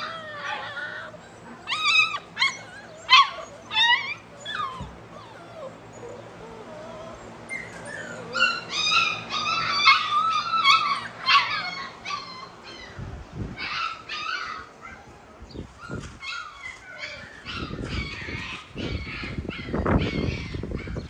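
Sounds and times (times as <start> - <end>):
puppies whining: 0.0 - 21.0.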